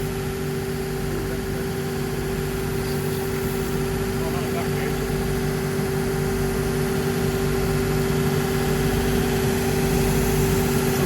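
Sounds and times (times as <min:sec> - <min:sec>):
workshop machine humming: 0:00.0 - 0:11.0.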